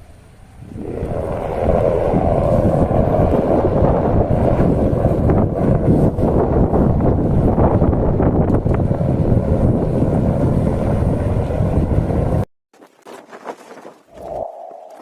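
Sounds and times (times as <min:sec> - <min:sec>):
wind buffeting microphone: 0:00.0 - 0:12.4, 0:13.5 - 0:15.0.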